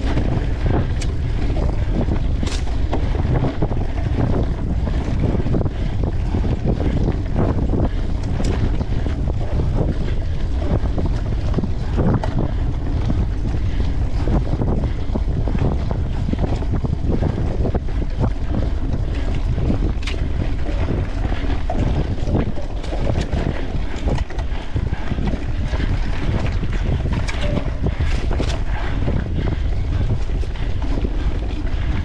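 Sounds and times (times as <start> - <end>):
bike rattling over rough trail: 0.0 - 32.0
wind rushing over microphone: 0.0 - 32.0.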